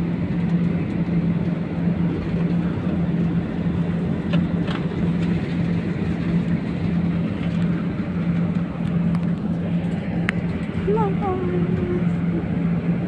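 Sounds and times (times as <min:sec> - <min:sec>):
low wavering hum: 0:00.0 - 0:13.0.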